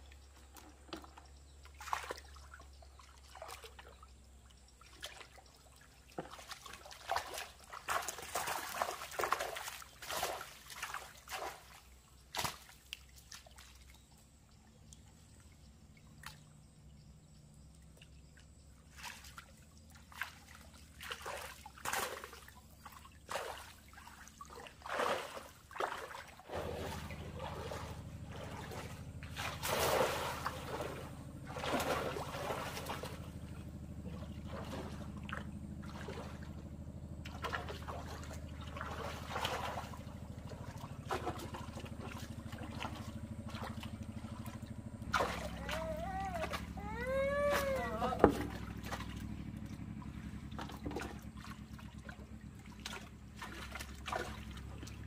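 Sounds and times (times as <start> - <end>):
steady low hum: 0.0 - 55.0
water splashing and sloshing: 0.0 - 55.0
water trickling: 0.0 - 55.0.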